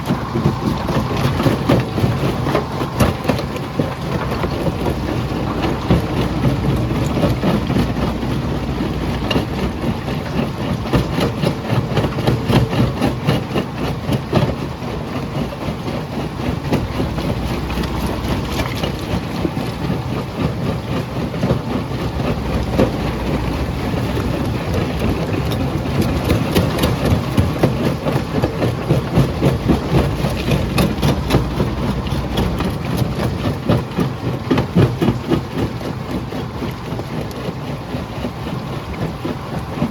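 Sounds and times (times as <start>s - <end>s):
crusher low rumble: 0.0s - 39.9s
rock clattering in crusher: 0.1s - 14.6s, 16.6s - 35.9s.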